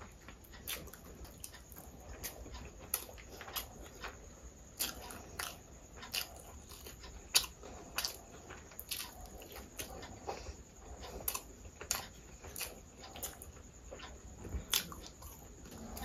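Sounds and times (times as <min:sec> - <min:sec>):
person eating wet chewing: 0:00.4 - 0:04.2, 0:04.8 - 0:16.0.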